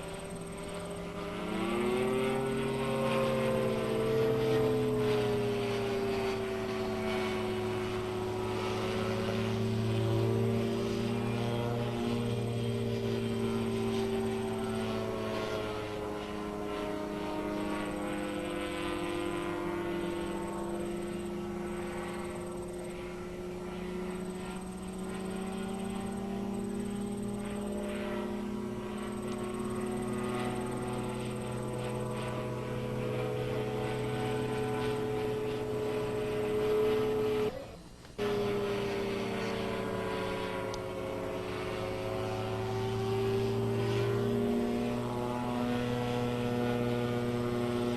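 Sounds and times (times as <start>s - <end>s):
propeller aircraft flying overhead: 0.0s - 47.9s.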